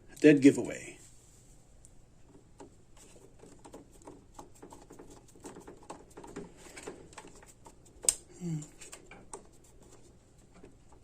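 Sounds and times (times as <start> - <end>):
light clicks taps and rattles: 1.8 - 11.0.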